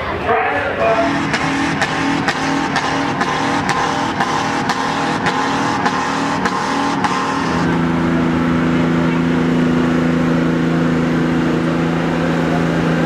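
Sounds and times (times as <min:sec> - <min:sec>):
truck engine under load: 0:00.0 - 0:13.0.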